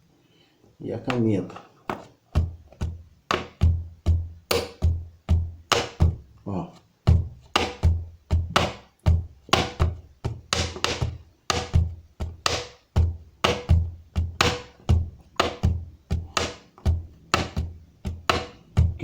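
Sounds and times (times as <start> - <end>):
hand thumping tabletop: 1.0 - 6.2, 7.1 - 19.0.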